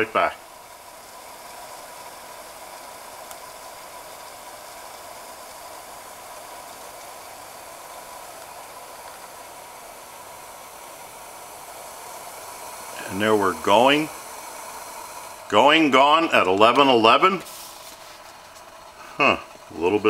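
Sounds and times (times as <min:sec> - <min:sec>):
stove burner hissing: 0:00.0 - 0:20.0.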